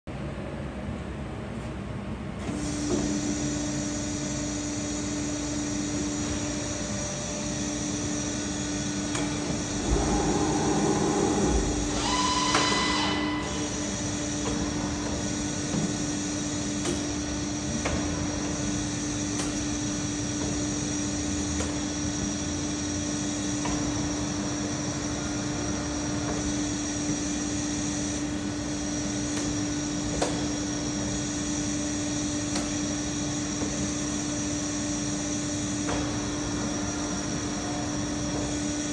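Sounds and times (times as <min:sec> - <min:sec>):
milling machine humming: 0:02.6 - 0:38.9.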